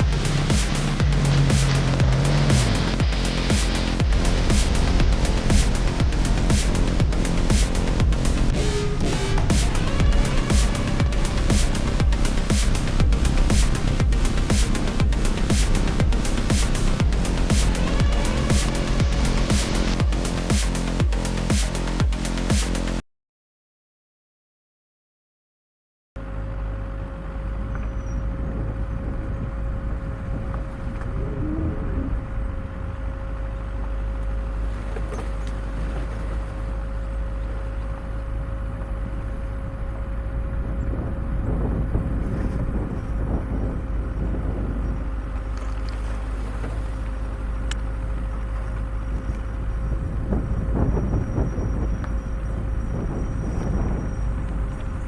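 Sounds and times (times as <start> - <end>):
off-road vehicle rumbling: 0.0 - 23.0, 26.2 - 55.0.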